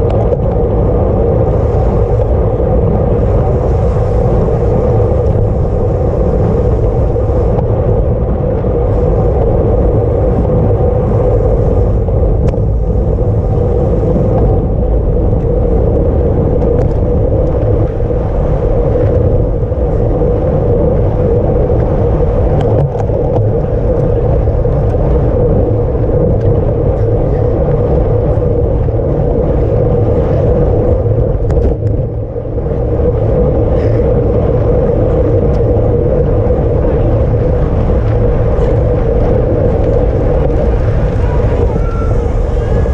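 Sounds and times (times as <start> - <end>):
bicycle tyre rumble: 0.0 - 42.9
wind rush: 0.0 - 42.9.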